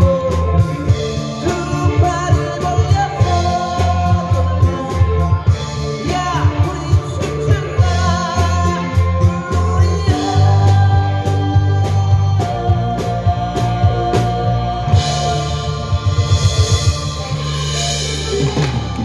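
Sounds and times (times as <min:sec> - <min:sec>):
male lead vocal: 0:00.0 - 0:18.5
live rock band playing: 0:00.0 - 0:19.0.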